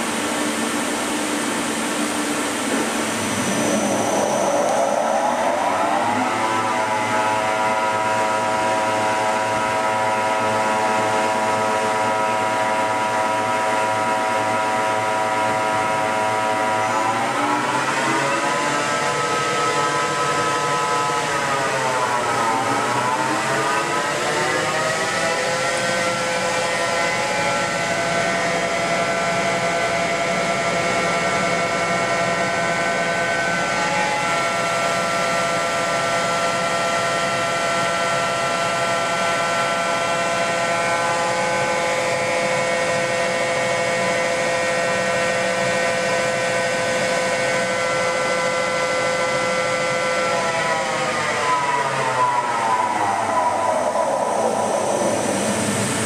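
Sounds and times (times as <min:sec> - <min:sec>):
machine chuck spinning whine: 0:00.1 - 0:56.0.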